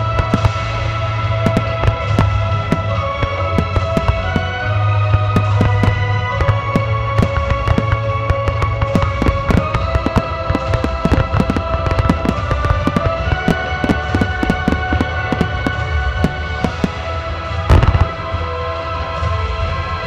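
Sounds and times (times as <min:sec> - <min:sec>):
firework shells bursting: 0:00.0 - 0:17.0
music with long held notes: 0:00.0 - 0:20.0.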